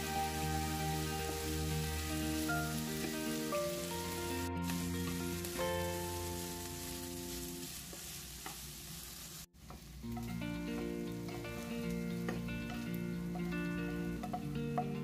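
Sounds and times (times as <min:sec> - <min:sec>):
background music: 0:00.0 - 0:07.6, 0:10.0 - 0:15.0
food sizzling in a frying pan: 0:00.0 - 0:15.0.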